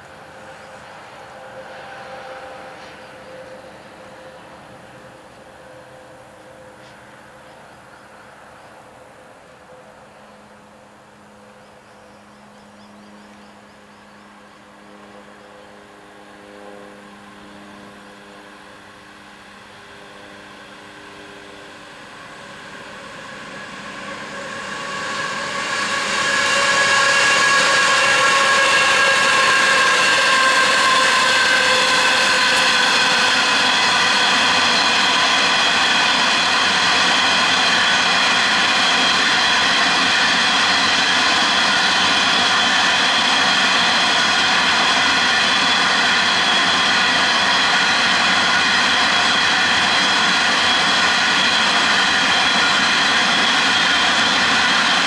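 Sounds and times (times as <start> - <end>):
diesel locomotives passing: 0.0 - 55.0
high steady whining tones: 10.4 - 55.0.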